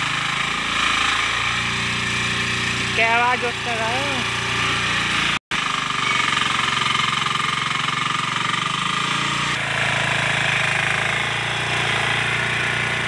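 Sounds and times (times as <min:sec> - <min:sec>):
tiller engine running: 0:00.0 - 0:13.0
tines working through soil: 0:00.0 - 0:13.0.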